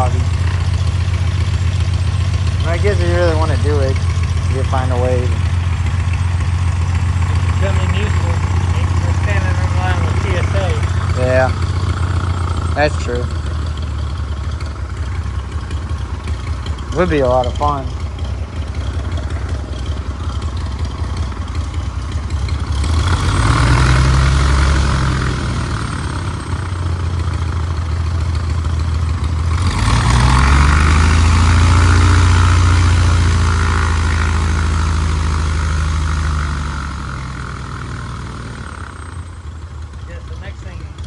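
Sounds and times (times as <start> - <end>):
aircraft engine idling and revving: 0.0 - 41.0.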